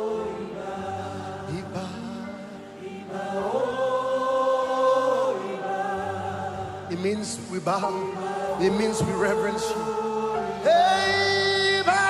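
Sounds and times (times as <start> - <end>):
sustained accompaniment: 0.0 - 12.0
voices singing slow chant: 0.0 - 12.0.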